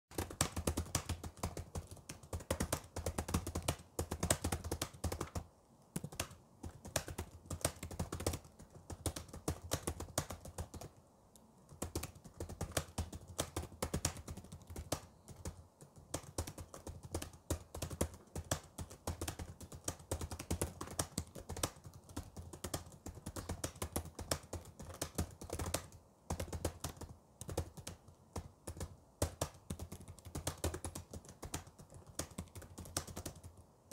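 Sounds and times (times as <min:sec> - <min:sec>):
fast typing on computer keyboard: 0:00.1 - 0:11.0, 0:11.6 - 0:33.9.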